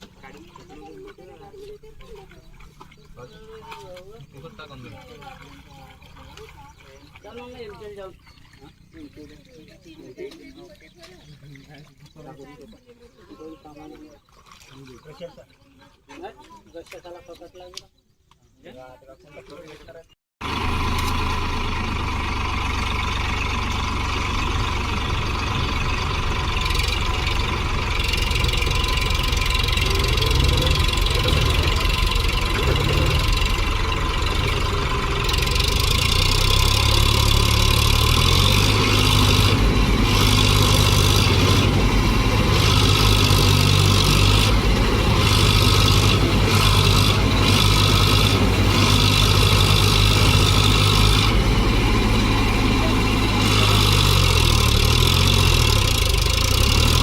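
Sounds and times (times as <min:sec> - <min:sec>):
tractor engine running: 0:00.0 - 0:11.4, 0:20.4 - 0:57.0.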